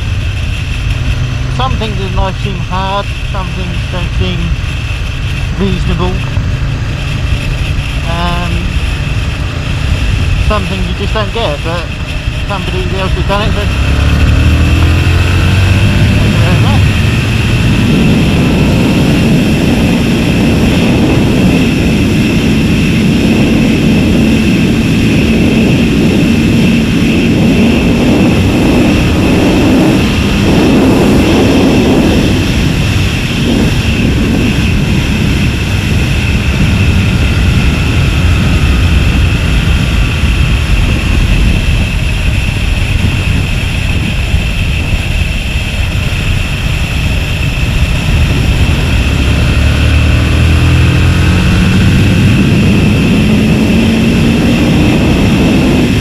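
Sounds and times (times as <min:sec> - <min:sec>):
motorcycle engine: 0:00.0 - 0:56.0
wind buffeting microphone: 0:00.0 - 0:56.0.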